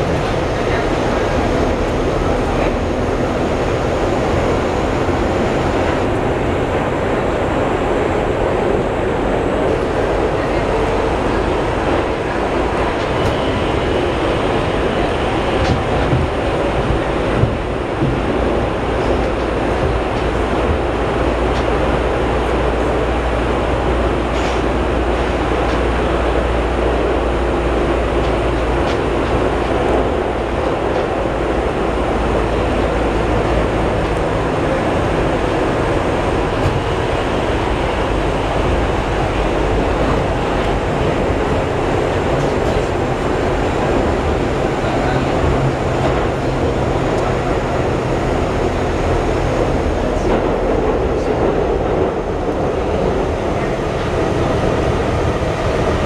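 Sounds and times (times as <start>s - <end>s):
subway wheels rumbling on rails: 0.0s - 56.0s.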